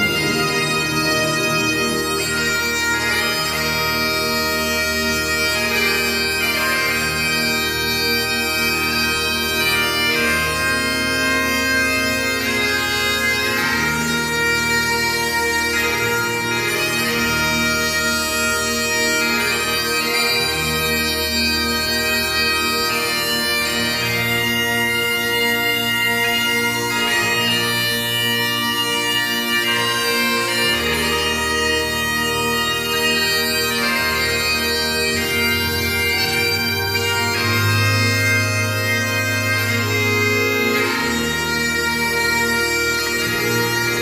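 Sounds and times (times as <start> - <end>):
bagpipe music: 0.0 - 44.0.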